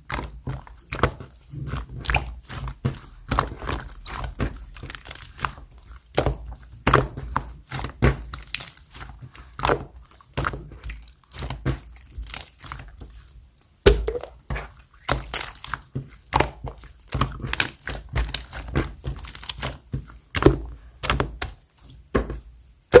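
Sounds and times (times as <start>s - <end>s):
slime squishing with wet pops: 0.0s - 23.0s.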